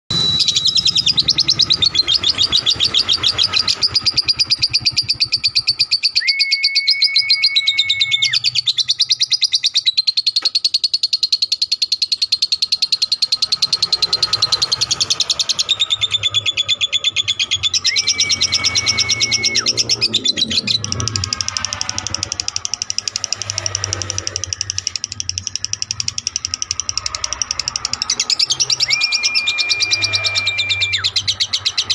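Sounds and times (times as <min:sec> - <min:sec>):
steady high tone: 0:00.1 - 0:08.7, 0:10.4 - 0:31.9
lovebird chattering trill: 0:00.1 - 0:31.9.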